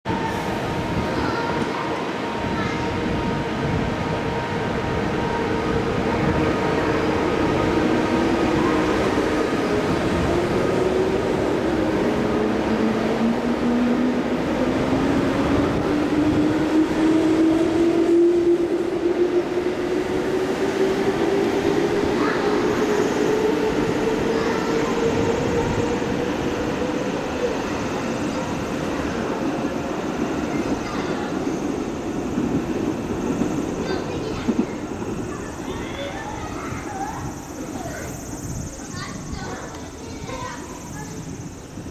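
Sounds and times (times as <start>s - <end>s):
wheels rumbling on rails: 0.4s - 41.9s.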